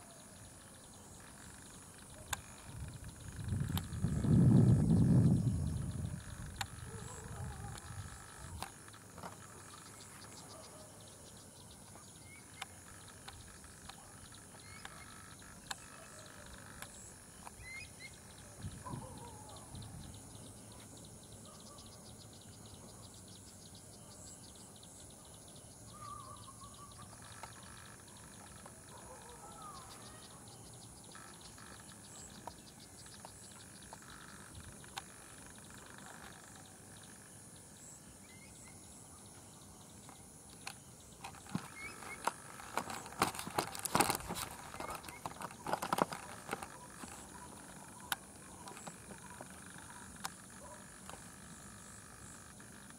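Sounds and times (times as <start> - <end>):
insects buzzing and trilling: 0.0 - 52.9.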